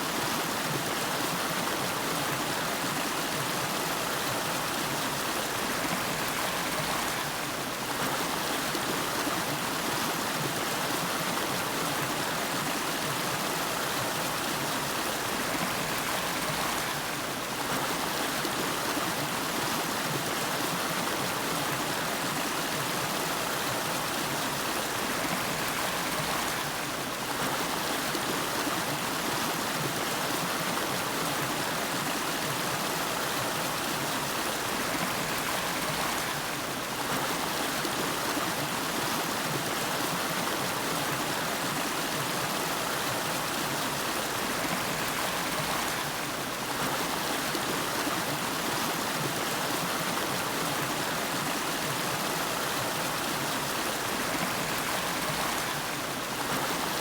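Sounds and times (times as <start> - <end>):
river water over rocks: 0.0 - 57.0.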